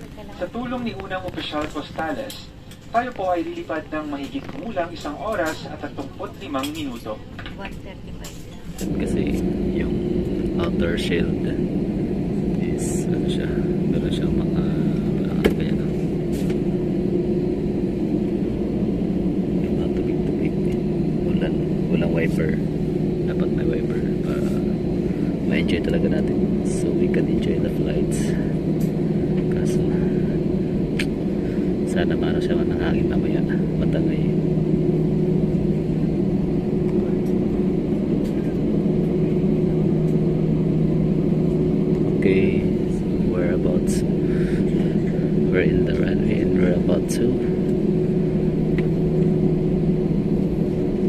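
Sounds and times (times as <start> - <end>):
airliner cabin engine drone: 0.0 - 51.0.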